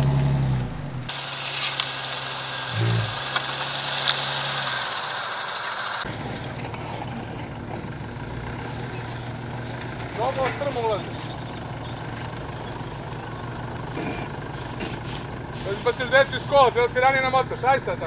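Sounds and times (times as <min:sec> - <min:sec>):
off-road engine at low revs: 0:00.0 - 0:18.0
rough engine sound: 0:00.0 - 0:18.0.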